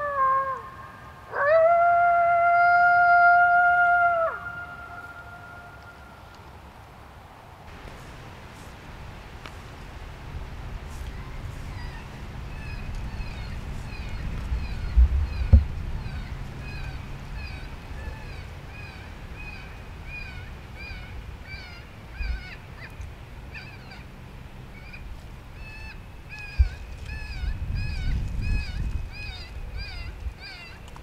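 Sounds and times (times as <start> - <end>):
steady low rumble: 4.7 - 31.0.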